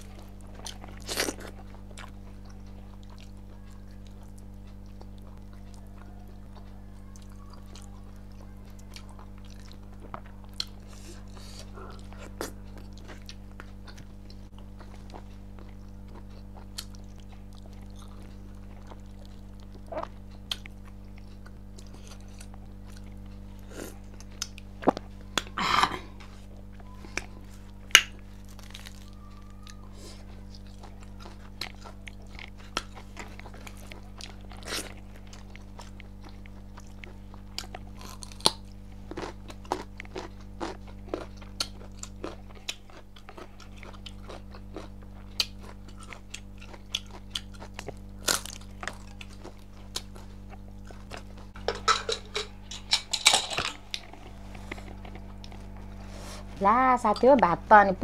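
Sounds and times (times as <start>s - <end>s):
chewing and crunching: 0.0s - 58.0s
steady low hum: 0.0s - 58.0s.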